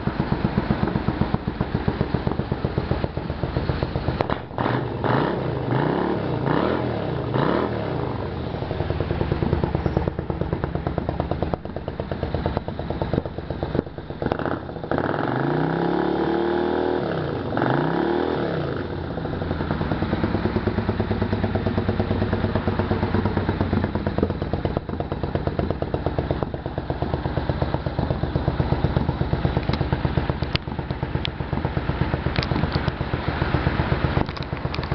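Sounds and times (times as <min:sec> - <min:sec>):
motorcycle engine revving and idling: 0:00.0 - 0:34.9.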